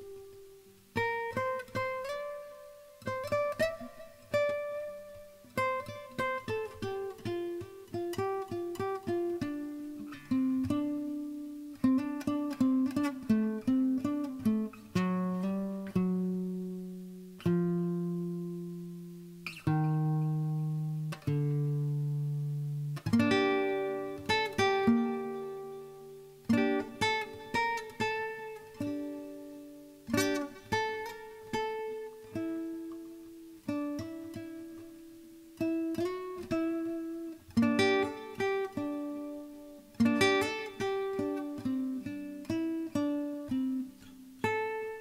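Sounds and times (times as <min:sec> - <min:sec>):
solo guitar picking: 0:00.0 - 0:45.0.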